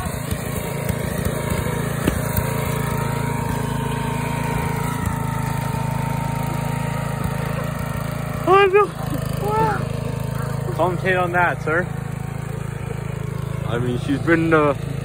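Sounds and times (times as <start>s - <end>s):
riding mower engine running: 0.0s - 15.0s.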